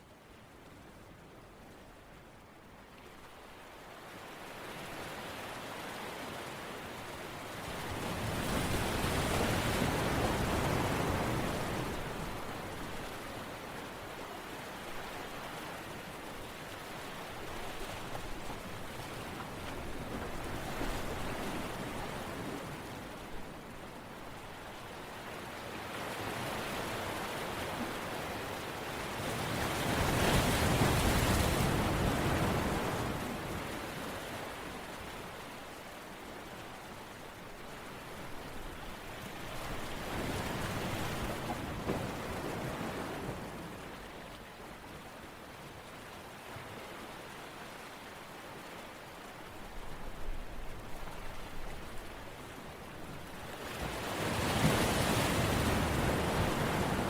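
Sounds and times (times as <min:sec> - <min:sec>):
rushing water: 0:02.2 - 0:57.0.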